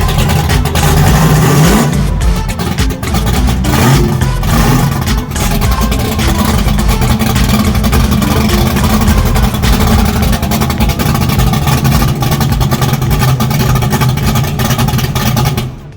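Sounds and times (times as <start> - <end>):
rough car engine rumbling: 0.0 - 15.9.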